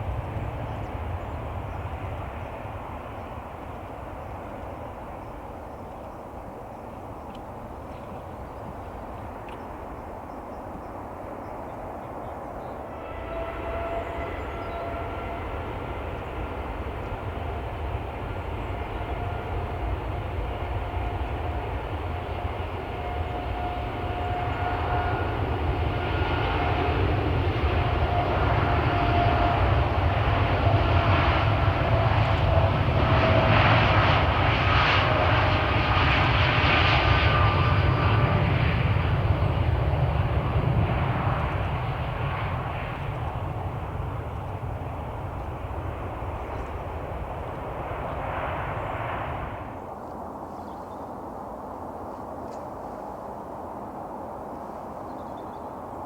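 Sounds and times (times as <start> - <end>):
jet airliner engines rumbling: 0.0 - 56.0
jet engine high whine: 0.0 - 56.0.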